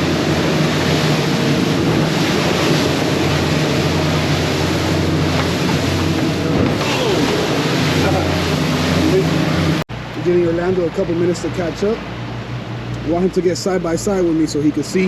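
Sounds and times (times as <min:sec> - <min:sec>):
outboard motors running: 0:00.0 - 0:15.0
water rushing along hull: 0:00.0 - 0:15.0.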